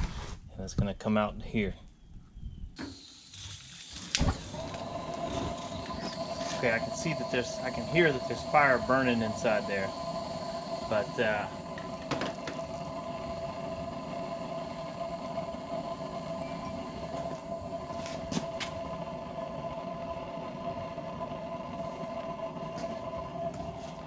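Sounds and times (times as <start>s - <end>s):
propane flame rushing: 2.8s - 24.0s.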